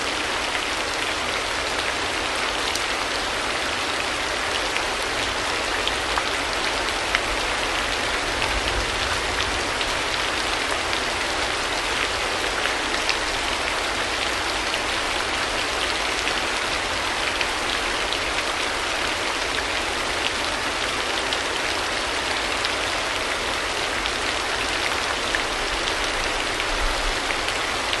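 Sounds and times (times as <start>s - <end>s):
steady rain with drop ticks: 0.0s - 28.0s.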